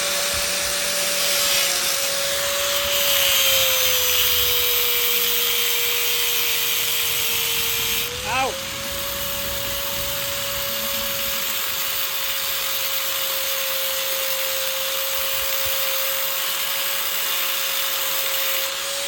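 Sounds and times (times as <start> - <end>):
electric power tool whining: 0.0 - 19.0.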